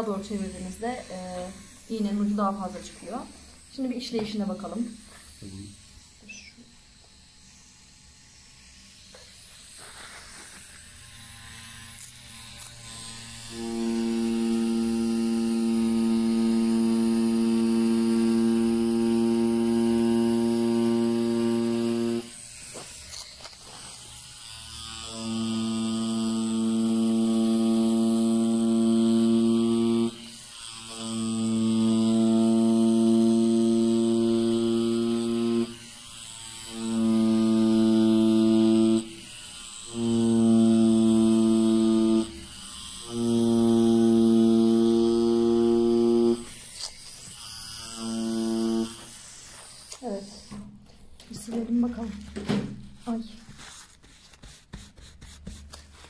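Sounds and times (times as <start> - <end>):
tattoo machine humming: 0.0 - 53.9.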